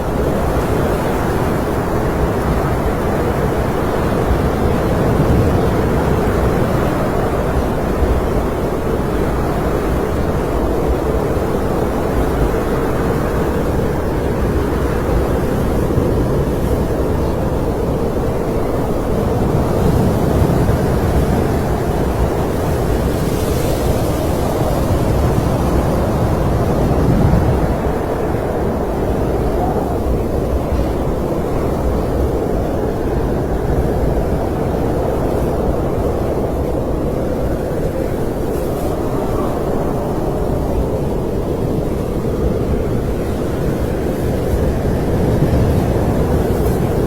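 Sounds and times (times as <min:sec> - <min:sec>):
snowstorm wind blowing: 0:00.0 - 0:47.0.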